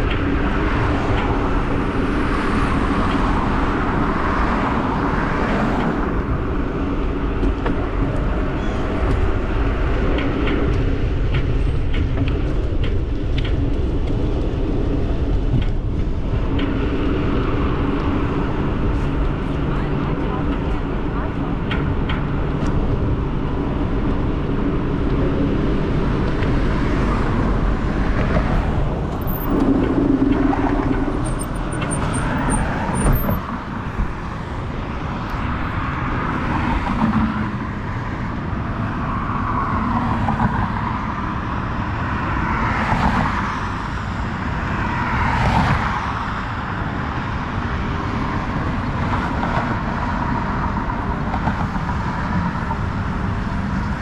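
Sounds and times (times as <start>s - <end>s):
bike rolling road noise: 0.0s - 54.0s
wind buffeting microphone: 0.0s - 54.0s.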